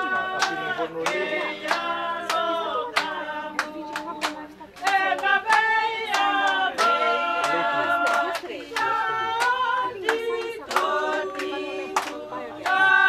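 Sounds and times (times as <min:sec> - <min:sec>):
group singing a cappella: 0:00.0 - 0:13.0
steady hand claps: 0:00.0 - 0:13.0.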